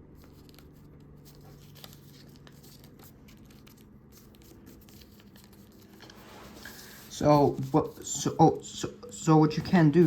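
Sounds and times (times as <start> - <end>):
paper rustling and crinkling: 0.0 - 8.4.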